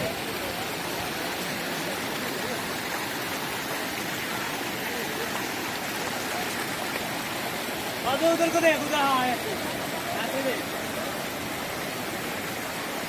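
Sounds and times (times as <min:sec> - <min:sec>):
faint voices: 0:00.0 - 0:13.0
waterfall rushing: 0:00.0 - 0:13.0.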